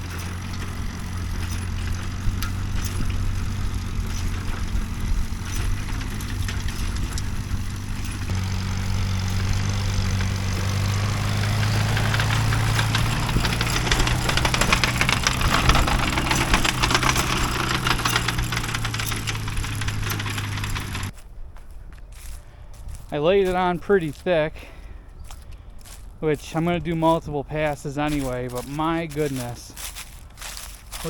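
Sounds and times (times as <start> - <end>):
manure spreader rattling clatter: 0.0 - 21.2, 25.8 - 31.0
tractor engine running: 0.0 - 21.2, 25.2 - 31.0.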